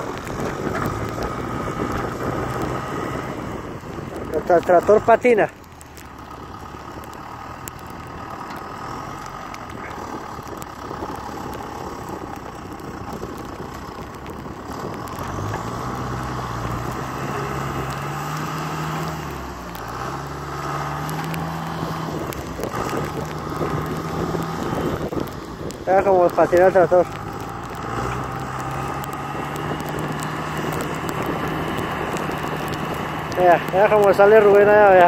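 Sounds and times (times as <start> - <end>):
tractor engine straining: 0.0 - 35.0
wheels slipping in snow: 0.0 - 35.0.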